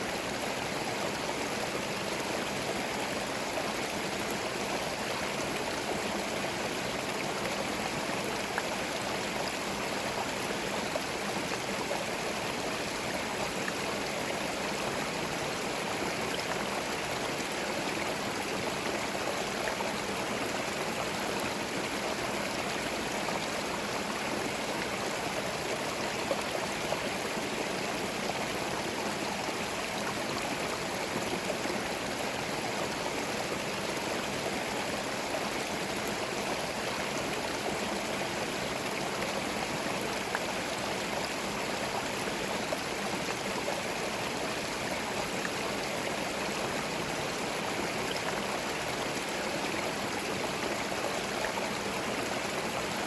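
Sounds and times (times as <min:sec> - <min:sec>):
stream babbling over stones: 0:00.0 - 0:53.0.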